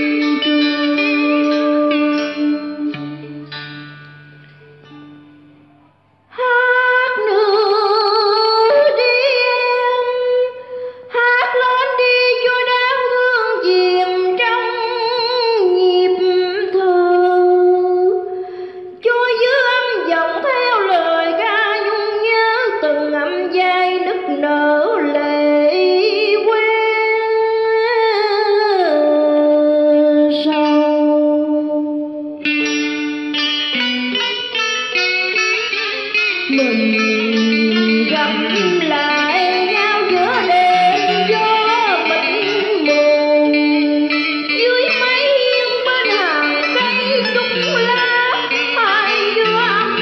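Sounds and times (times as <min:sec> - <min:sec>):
woman singing into microphone: 0:00.0 - 0:03.4, 0:06.3 - 0:32.4, 0:36.5 - 0:50.0.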